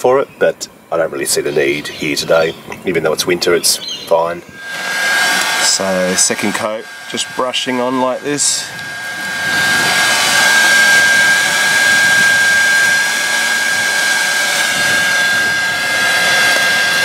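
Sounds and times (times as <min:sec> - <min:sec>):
heat gun blowing with high whine: 0:01.3 - 0:17.0.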